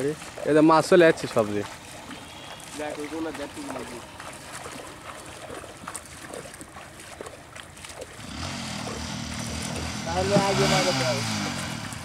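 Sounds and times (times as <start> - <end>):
water sloshing and splashing: 0.0 - 12.0
engine humming: 1.2 - 12.0.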